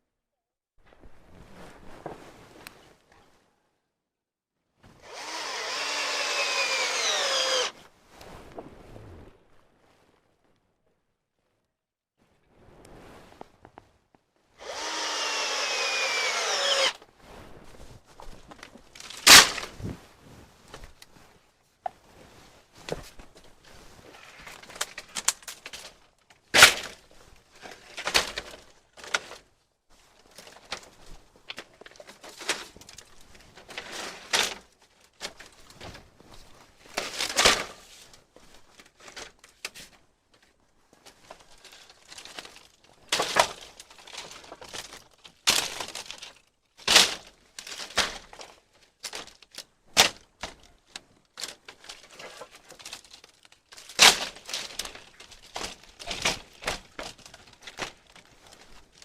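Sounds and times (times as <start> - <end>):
crinkling: 5.0 - 7.9, 13.4 - 59.0.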